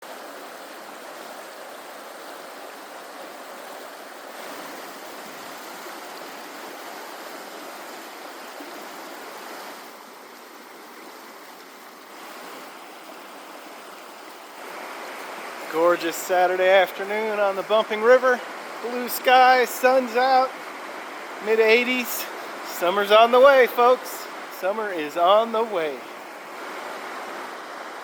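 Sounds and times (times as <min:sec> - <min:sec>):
flowing river water: 0:00.0 - 0:28.0.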